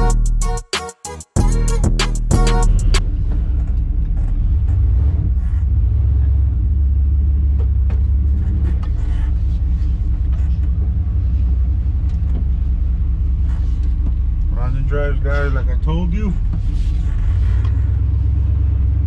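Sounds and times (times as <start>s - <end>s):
truck engine rumbling: 1.4s - 19.0s.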